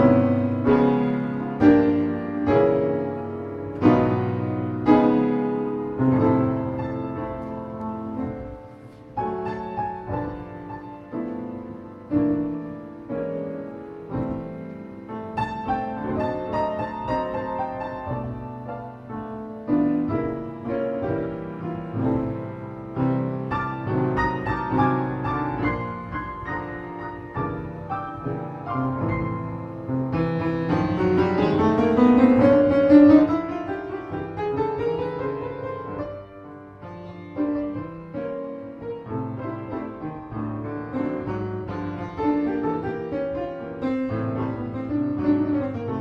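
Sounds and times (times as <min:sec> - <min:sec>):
solo piano piece: 0:00.0 - 0:46.0.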